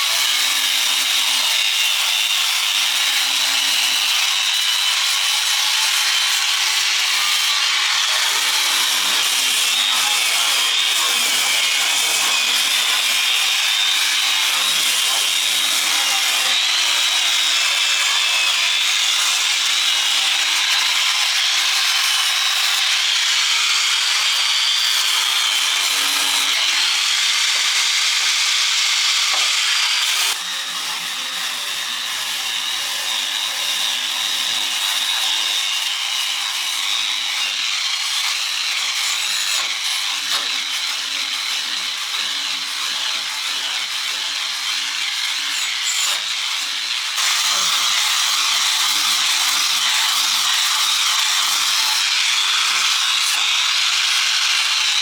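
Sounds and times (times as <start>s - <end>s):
power tool grinding steel: 0.0s - 55.0s.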